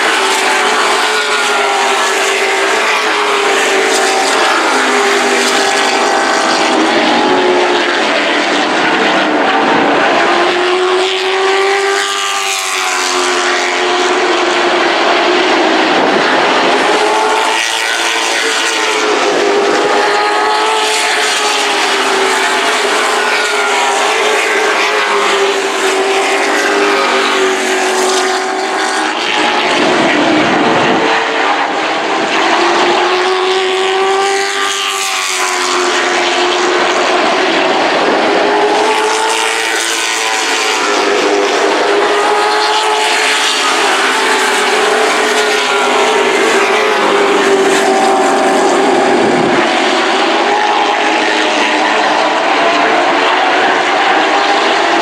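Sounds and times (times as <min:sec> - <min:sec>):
racing truck engines: 0:00.0 - 0:55.0.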